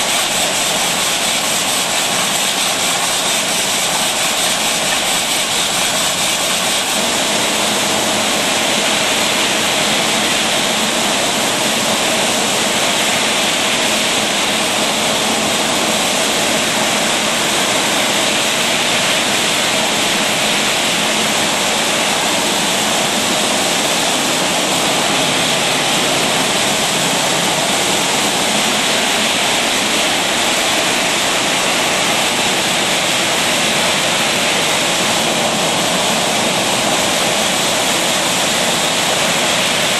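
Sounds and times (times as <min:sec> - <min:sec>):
bottle-filling machine rushing: 0:00.0 - 0:39.9.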